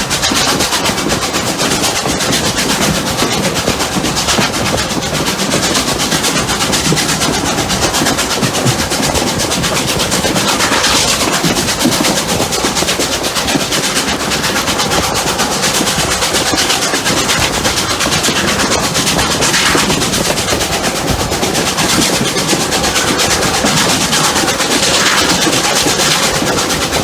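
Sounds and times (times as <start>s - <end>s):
steam locomotive exhaust chuffs: 0.0s - 27.0s
train running noise: 0.0s - 27.0s.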